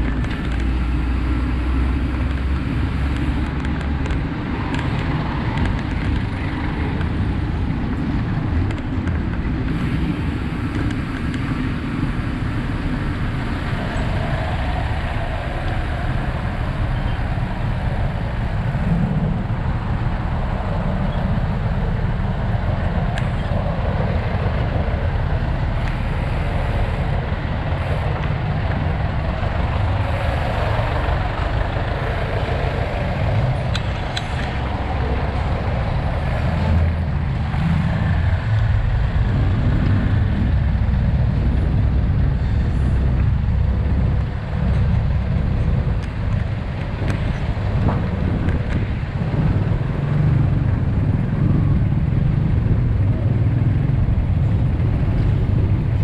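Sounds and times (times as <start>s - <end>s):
slow street traffic rumble: 0.0s - 56.0s.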